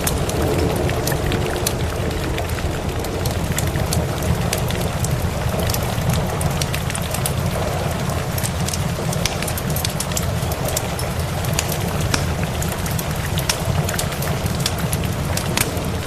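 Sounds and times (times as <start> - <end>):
continuous low rumble: 0.0 - 16.0
steady rain: 0.0 - 16.0
wood fire crackling: 0.0 - 16.0.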